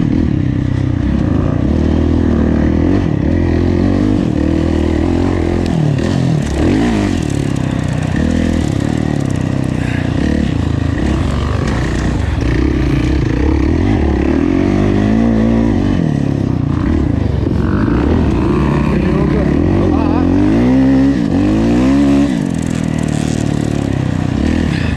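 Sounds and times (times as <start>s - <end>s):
motocross bike engine revving: 0.0s - 24.9s.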